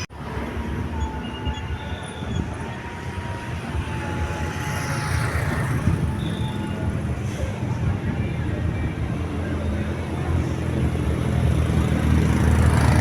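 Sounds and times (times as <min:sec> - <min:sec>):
bus engine rumbling: 0:00.0 - 0:13.0
road noise: 0:00.0 - 0:13.0.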